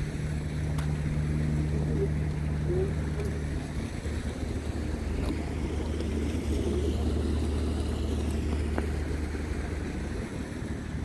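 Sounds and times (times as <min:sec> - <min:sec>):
engine idling hum: 0:00.0 - 0:11.0.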